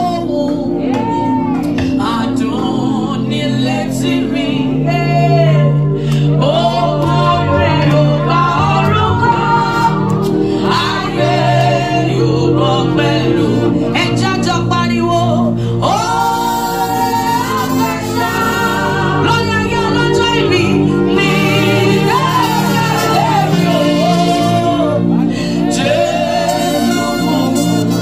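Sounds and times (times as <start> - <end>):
crowd singing along: 0.0 - 28.0
woman singing into microphone: 0.0 - 28.0.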